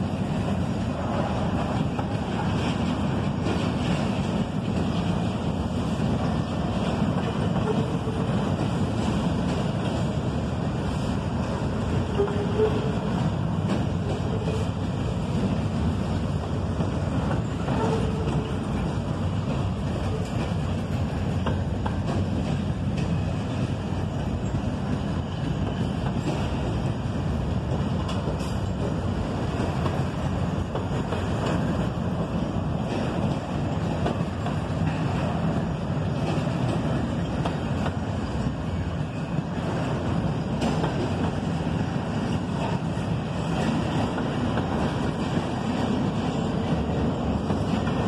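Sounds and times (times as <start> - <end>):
freight train rolling past: 0.0 - 48.0.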